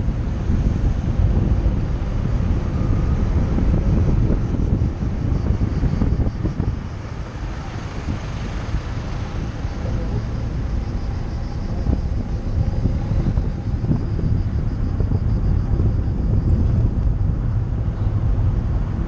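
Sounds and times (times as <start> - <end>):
car driving at low speed: 0.0 - 19.0
wind on microphone: 0.0 - 19.0.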